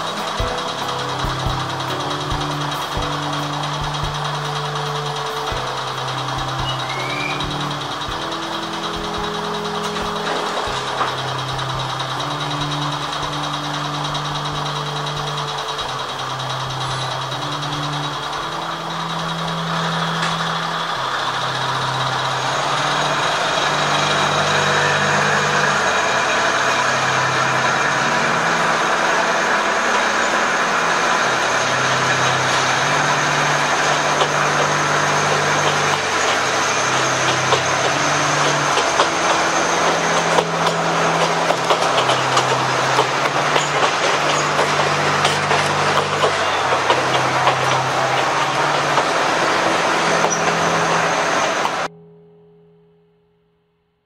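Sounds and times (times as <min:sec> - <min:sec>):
diesel railcar engine: 0:00.0 - 0:51.9
wheels clicking over rail joints: 0:00.0 - 0:51.9.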